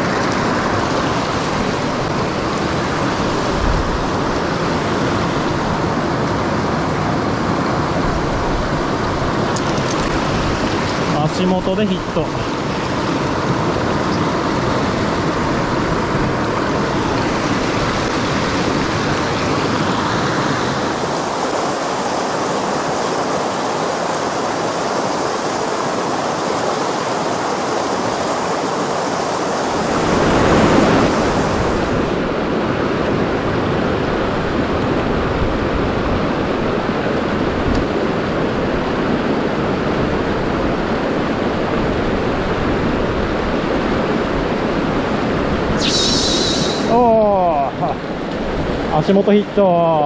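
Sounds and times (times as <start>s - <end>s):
mountain stream rushing: 0.0s - 50.0s.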